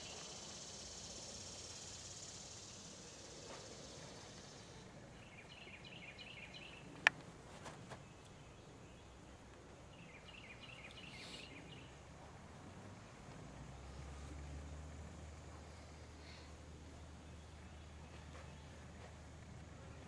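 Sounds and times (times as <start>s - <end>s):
small birds twittering: 0.0s - 12.2s, 13.6s - 20.0s.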